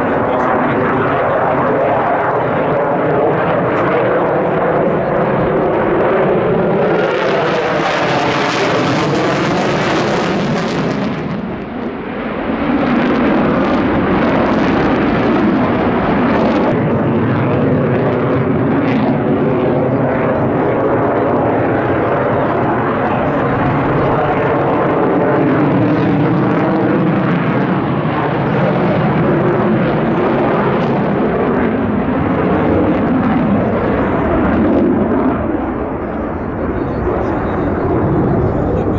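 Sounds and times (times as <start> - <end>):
jet engine roar: 0.0 - 38.9.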